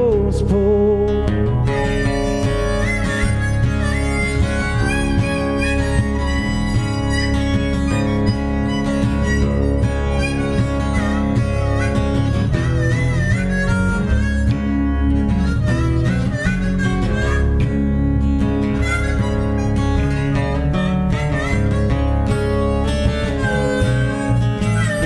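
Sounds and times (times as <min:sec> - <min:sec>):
harmonica lead line: 0:00.0 - 0:25.0
strummed guitar: 0:00.0 - 0:25.0.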